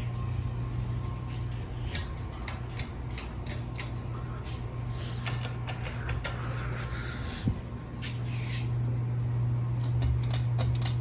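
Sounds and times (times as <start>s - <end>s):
ceiling fan motor hum: 0.0s - 11.0s
fan clicks and ticks: 0.6s - 11.0s.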